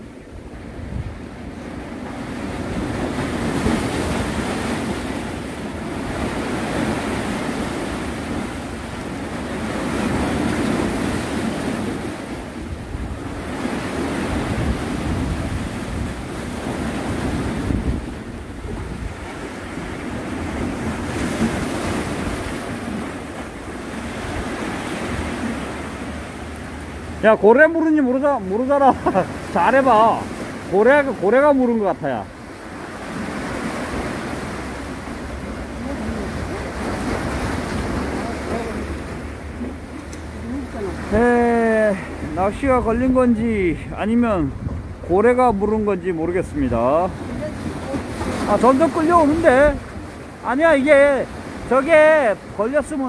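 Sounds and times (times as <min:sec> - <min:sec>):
wind buffeting microphone: 0:00.0 - 0:27.4, 0:32.3 - 0:50.4
sea waves washing: 0:00.0 - 0:53.0.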